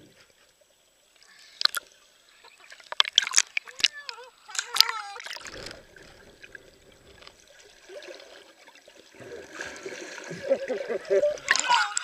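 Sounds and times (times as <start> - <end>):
underwater sloshing and gurgling: 0.0 - 12.0
water splashing: 1.2 - 12.0.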